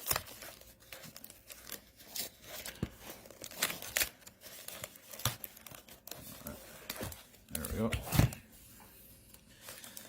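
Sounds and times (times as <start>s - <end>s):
packaging crinkling and tearing: 0.0s - 8.4s.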